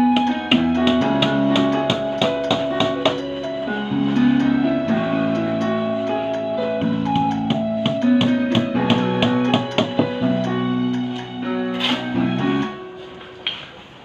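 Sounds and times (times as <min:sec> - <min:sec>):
held keyboard chords: 0:00.0 - 0:14.0.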